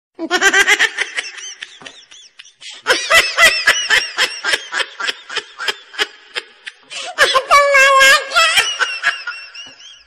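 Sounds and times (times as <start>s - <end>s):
woman laughing: 0.2s - 10.0s.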